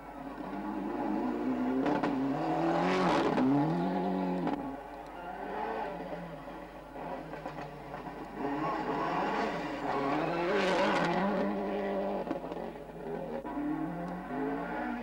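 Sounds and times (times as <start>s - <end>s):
rally car engine revving: 0.3s - 4.7s, 5.3s - 15.0s.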